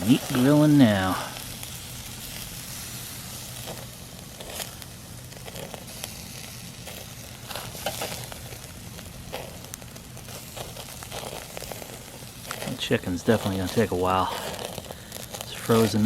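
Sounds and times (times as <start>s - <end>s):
fat popping and crackling: 0.0s - 16.0s
meat sizzling on a grill: 0.0s - 16.0s.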